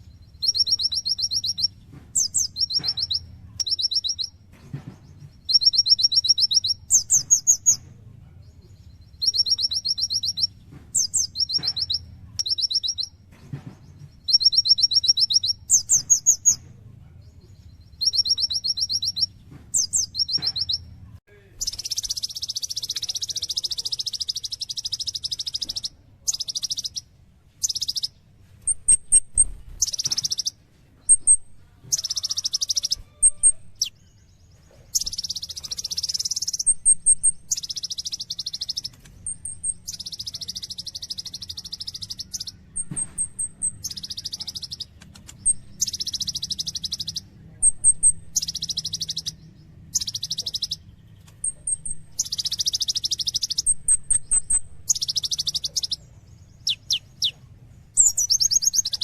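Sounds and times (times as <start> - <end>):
high bird chips: 0.0 - 7.8, 8.8 - 16.6, 17.6 - 21.0, 21.6 - 59.0
sunbird buzzy trills: 0.0 - 7.8, 8.7 - 16.6, 17.5 - 59.0.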